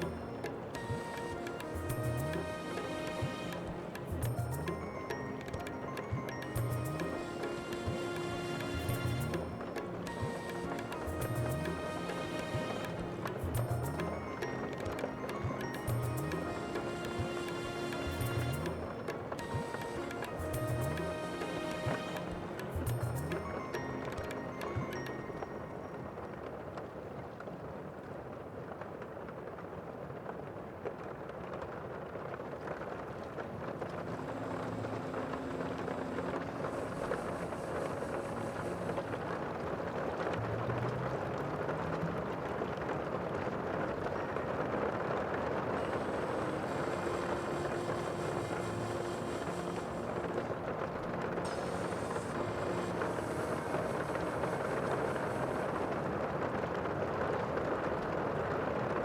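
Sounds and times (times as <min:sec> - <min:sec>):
sea water rushing: 0:00.0 - 0:27.6, 0:33.3 - 0:59.0
wind: 0:00.0 - 0:59.0.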